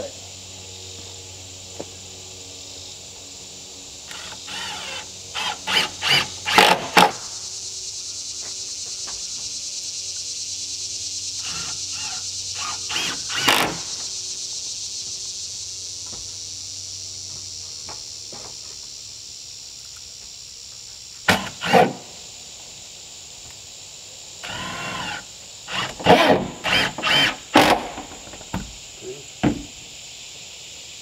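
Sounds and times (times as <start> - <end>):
insects chorus pulsing: 0.0 - 31.0.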